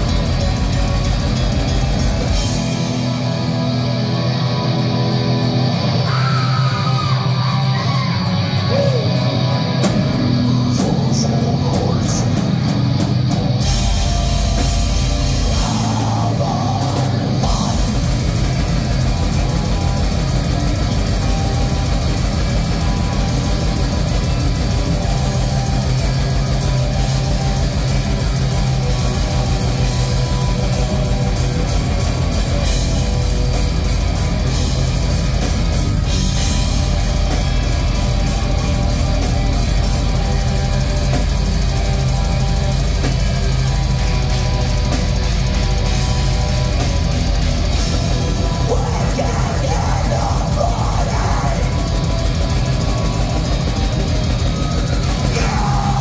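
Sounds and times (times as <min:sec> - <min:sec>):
distorted electric guitars and bass: 0:00.0 - 0:56.0
drum kit pounding: 0:00.0 - 0:56.0.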